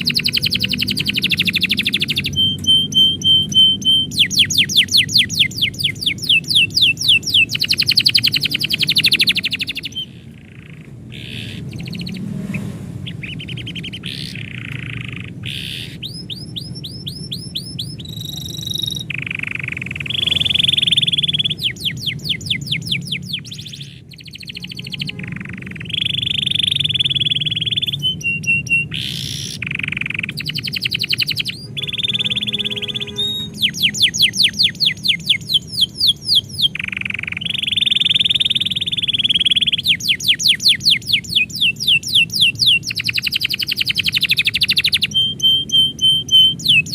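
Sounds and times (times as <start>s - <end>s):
canary singing: 0.0s - 46.9s.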